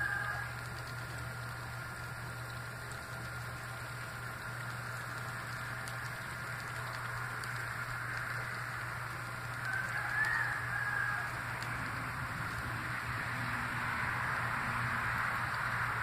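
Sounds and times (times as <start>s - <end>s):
low even hum: 0.0s - 16.0s
outdoor background hiss: 0.0s - 16.0s.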